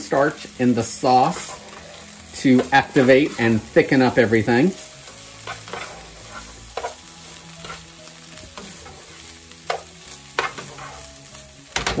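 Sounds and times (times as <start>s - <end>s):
food sizzling in a pan: 0.0s - 12.0s
wooden spoon scraping a pan: 0.2s - 12.0s.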